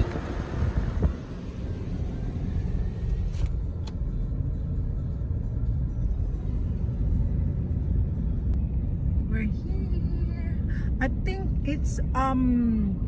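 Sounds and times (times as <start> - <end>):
car driving rumble from inside: 0.0 - 13.0.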